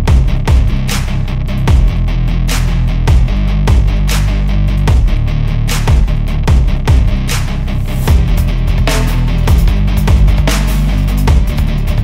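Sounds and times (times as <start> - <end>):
rock music with distorted guitar: 0.0 - 12.0.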